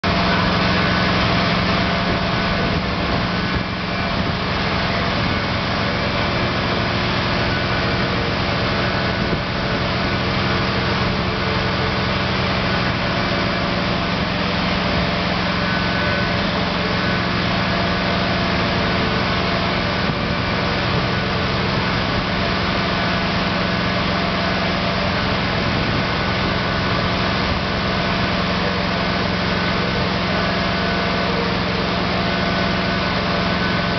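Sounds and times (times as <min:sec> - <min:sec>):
diesel engine running: 0:00.0 - 0:33.9
hydraulics working: 0:00.0 - 0:33.9.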